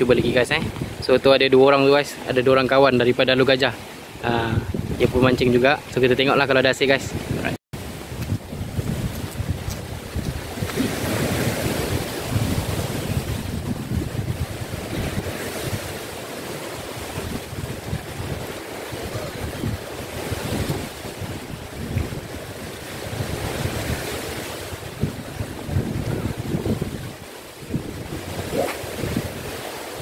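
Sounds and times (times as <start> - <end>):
wind buffeting microphone: 0.0 - 1.1, 4.2 - 6.0, 7.0 - 30.0
sea waves washing ashore: 0.0 - 30.0.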